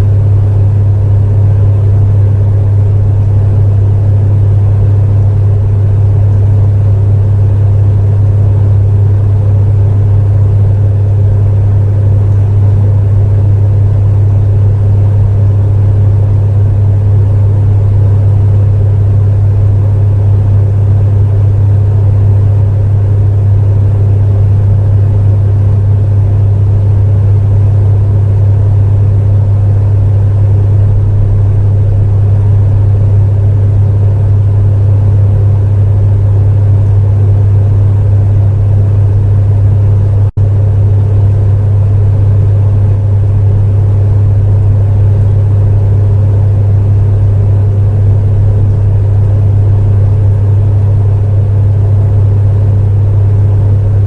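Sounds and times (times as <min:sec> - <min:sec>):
space heater humming: 0:00.0 - 0:54.0.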